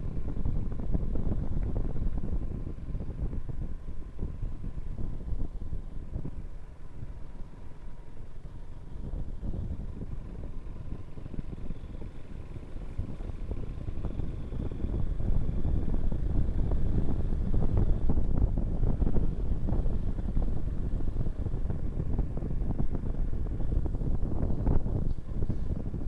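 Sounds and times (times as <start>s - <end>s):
motorcycle engine rumble: 0.0s - 26.0s
wind buffeting microphone: 0.0s - 26.0s.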